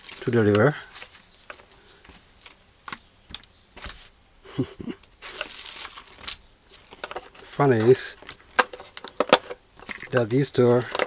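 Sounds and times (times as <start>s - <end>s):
packaging crinkling and rustling: 0.0s - 4.1s, 5.2s - 11.0s.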